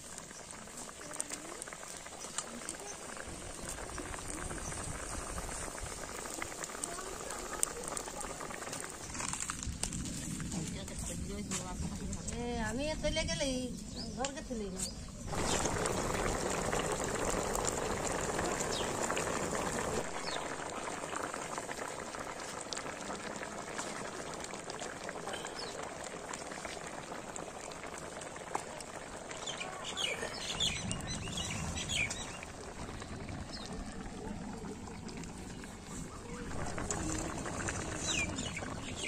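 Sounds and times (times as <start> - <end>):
curry bubbling: 0.0 - 39.0.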